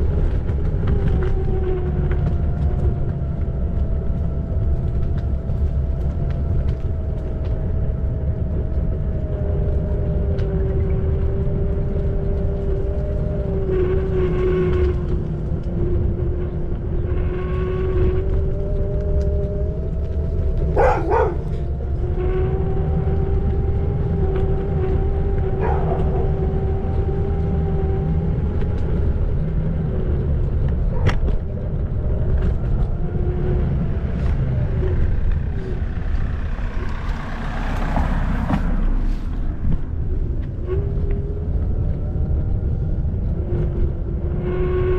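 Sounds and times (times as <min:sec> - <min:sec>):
low rumble of scooter ride: 0:00.0 - 0:44.9.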